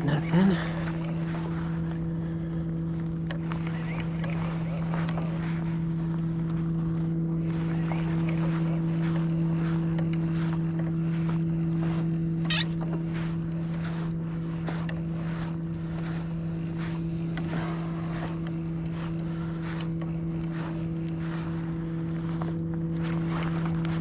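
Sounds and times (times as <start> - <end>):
low hum: 0.0 - 24.0
fishing reel cranking: 0.8 - 6.5, 7.3 - 21.1.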